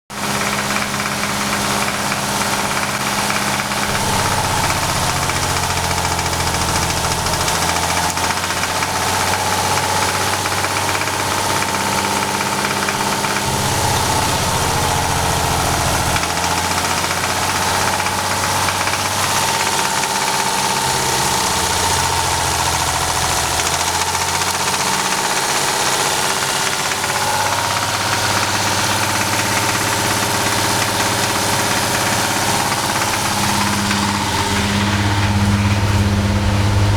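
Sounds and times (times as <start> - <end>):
car engine idling with a knock: 0.1 - 36.9.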